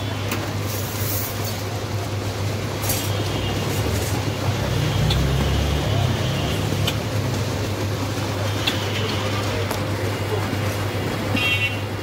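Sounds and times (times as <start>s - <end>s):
ice-cream machine drum humming: 0.0s - 12.0s.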